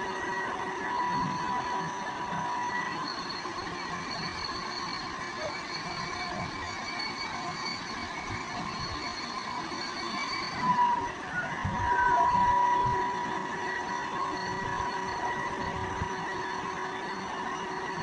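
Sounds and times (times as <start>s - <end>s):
excavator running: 0.0s - 18.0s
thin high whine: 0.0s - 18.0s.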